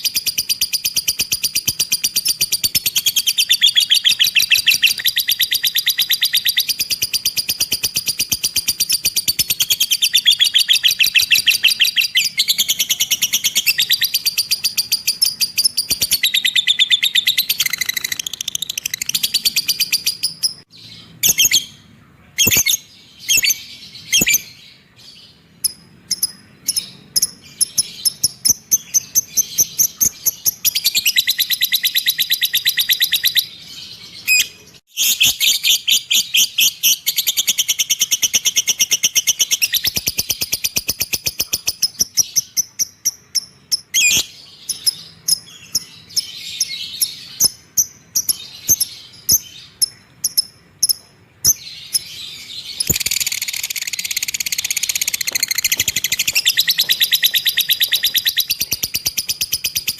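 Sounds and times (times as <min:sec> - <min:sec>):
cage bird chirping: 0:00.0 - 0:59.9.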